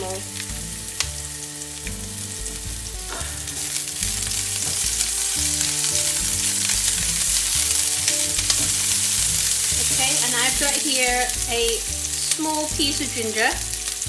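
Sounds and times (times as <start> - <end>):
onion sizzling in oil: 0.0 - 14.0
spatula stirring: 0.2 - 14.0.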